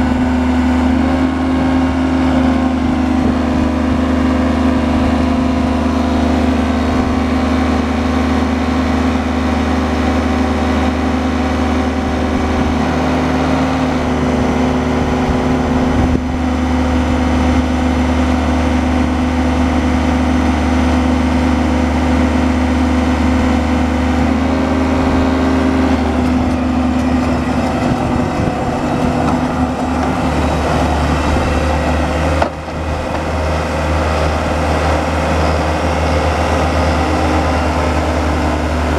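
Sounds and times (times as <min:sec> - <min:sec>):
paver diesel engine running: 0:00.0 - 0:38.9.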